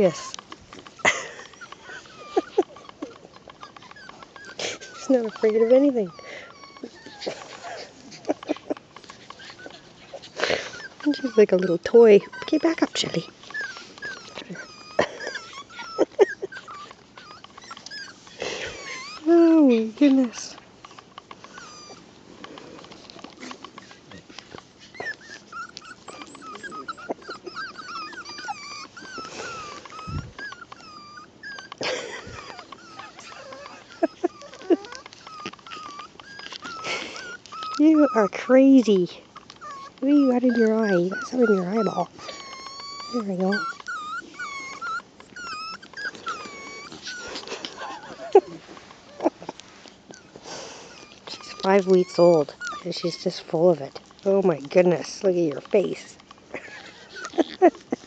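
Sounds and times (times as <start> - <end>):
puppy yelp: 0.0 - 22.1, 23.1 - 58.0
puppy whining and squealing: 0.0 - 58.0.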